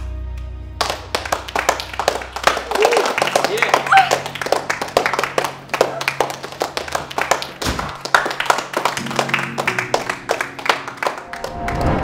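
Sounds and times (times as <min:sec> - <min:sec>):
background music: 0:00.0 - 0:12.0
people clapping: 0:00.7 - 0:12.0.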